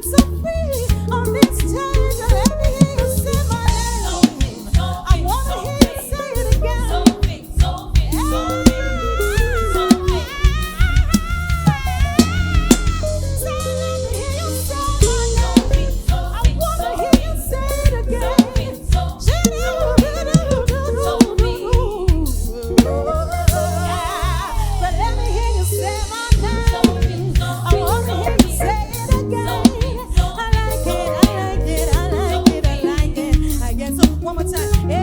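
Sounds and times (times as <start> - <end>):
funk band playing: 0.0 - 35.0.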